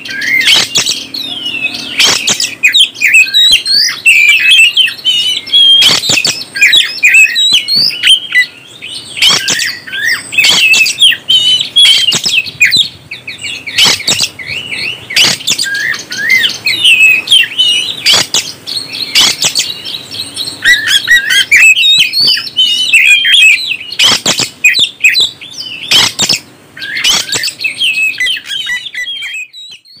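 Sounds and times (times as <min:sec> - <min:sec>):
bird singing chirps and whistles: 0:00.0 - 0:30.0.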